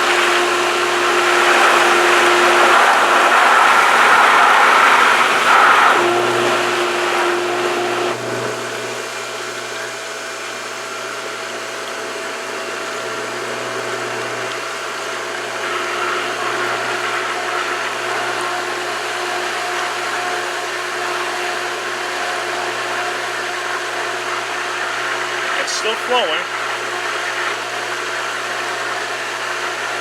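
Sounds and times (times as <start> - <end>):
pool pump motor running: 0.0 - 30.0.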